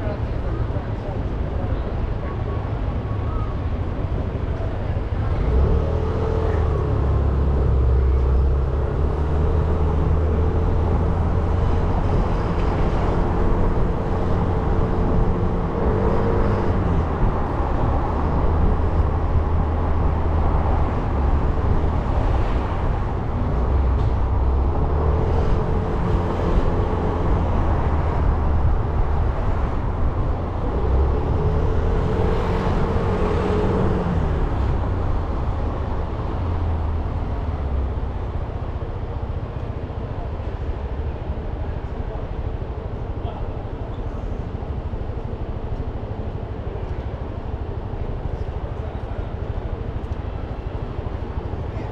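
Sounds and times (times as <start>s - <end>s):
wind and road noise: 0.0s - 51.9s.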